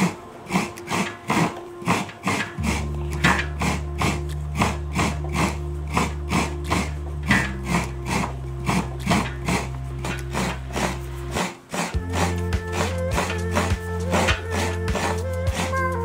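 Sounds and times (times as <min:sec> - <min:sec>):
coconut rasping on scraper blade: 0:00.0 - 0:16.0
low music drone: 0:00.0 - 0:16.0.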